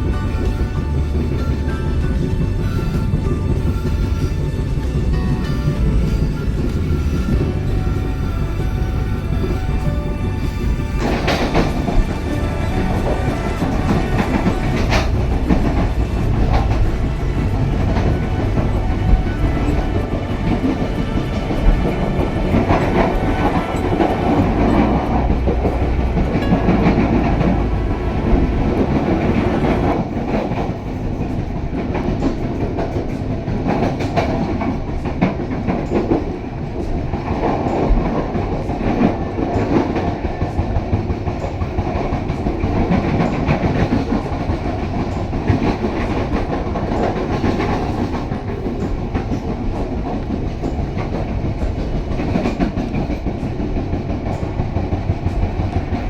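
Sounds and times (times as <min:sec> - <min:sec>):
train running noise: 0:00.0 - 0:56.0
train wheels clacking over rail joints: 0:00.0 - 0:56.0.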